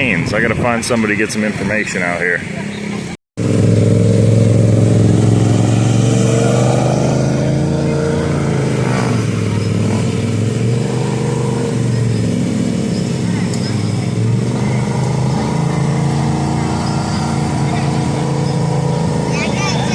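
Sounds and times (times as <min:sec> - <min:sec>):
mini bike engines droning: 0:02.5 - 0:19.9.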